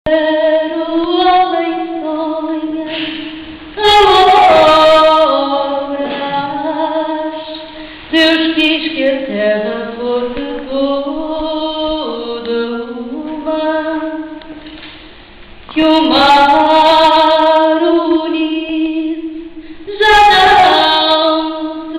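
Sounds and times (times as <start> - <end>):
woman singing a cappella: 0.0 - 14.8, 15.7 - 21.9.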